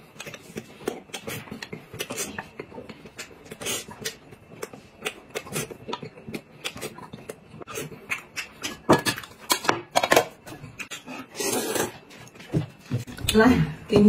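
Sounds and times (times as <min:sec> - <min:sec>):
chewing and mouth noises: 0:00.0 - 0:09.6, 0:10.4 - 0:12.4.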